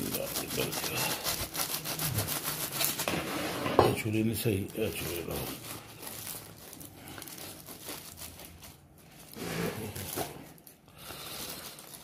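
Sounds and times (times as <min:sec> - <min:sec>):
knife tearing aluminium foil: 0:00.0 - 0:03.2, 0:04.0 - 0:12.0.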